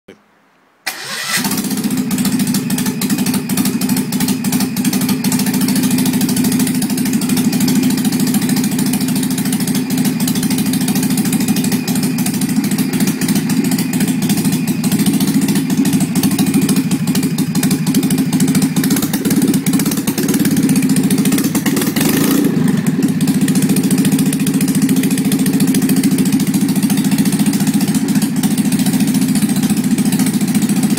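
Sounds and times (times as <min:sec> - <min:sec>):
car engine starting and running: 0:00.8 - 0:30.9.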